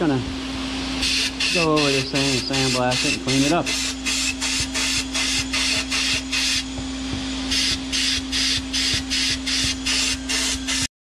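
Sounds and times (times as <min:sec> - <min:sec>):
steady hum: 0:00.0 - 0:10.9
sandblast gun hissing: 0:01.0 - 0:06.8, 0:07.5 - 0:10.9.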